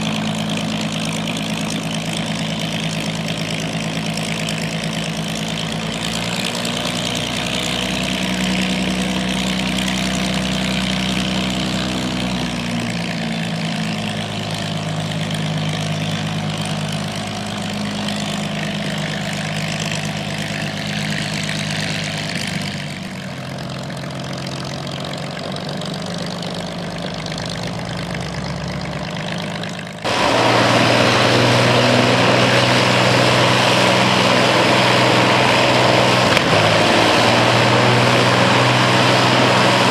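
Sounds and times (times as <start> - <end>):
propeller aircraft engine idling: 0.0 - 39.9.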